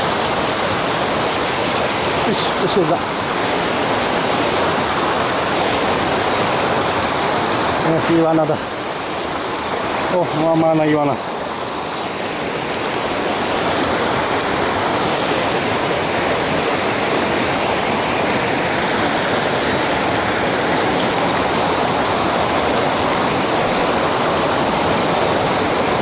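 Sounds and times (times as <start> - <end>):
fast stream rushing water: 0.0 - 26.0.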